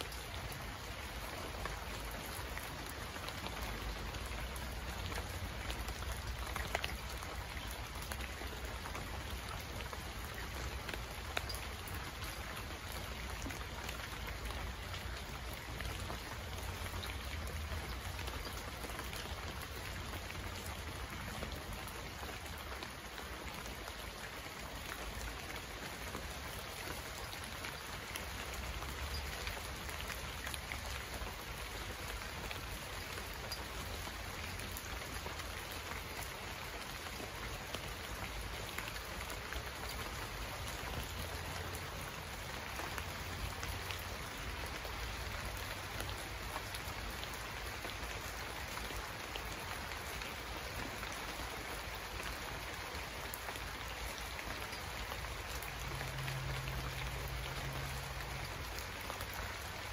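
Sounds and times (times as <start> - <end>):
heavy rainfall hiss: 0.0 - 59.9
raindrops ticking: 0.0 - 59.9.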